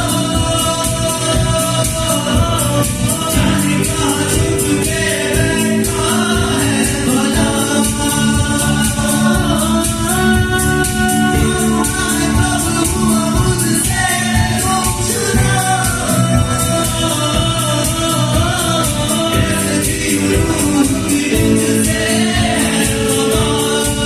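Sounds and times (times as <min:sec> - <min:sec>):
drums keeping a steady beat: 0:00.0 - 0:24.0
live band music: 0:00.0 - 0:24.0
person singing: 0:00.0 - 0:24.0.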